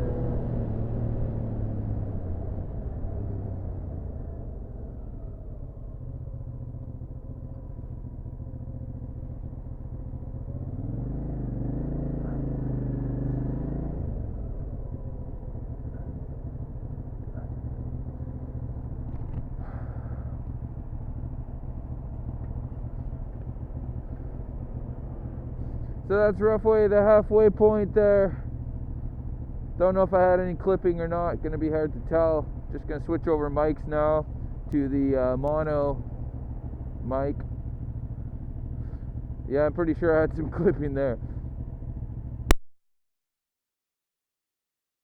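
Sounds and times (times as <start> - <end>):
motorcycle engine riding along: 0.0 - 42.6.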